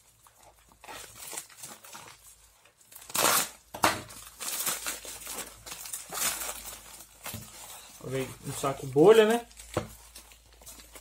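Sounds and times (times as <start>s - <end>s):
plastic bag crinkling: 0.0s - 11.0s
plastic bag ripping: 0.6s - 11.0s.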